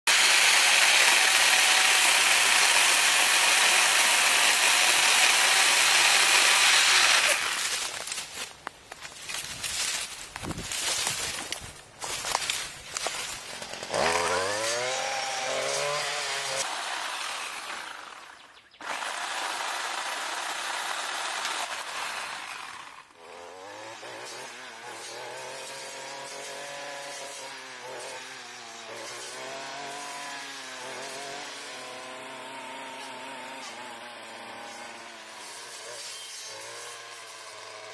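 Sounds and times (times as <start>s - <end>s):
brushcutter engine running: 0.1s - 8.4s, 9.4s - 37.9s
electric chainsaw cutting: 0.1s - 8.4s, 12.2s - 37.9s
rustling of cut branches: 0.1s - 37.9s.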